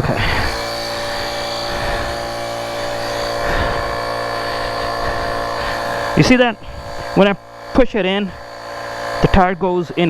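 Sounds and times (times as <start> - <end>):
tire inflator motor humming: 0.0 - 10.0.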